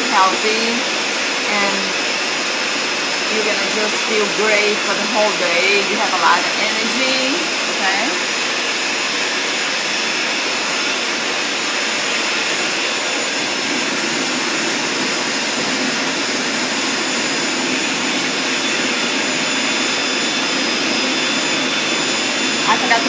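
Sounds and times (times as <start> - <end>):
blender motor running: 0.0 - 23.0.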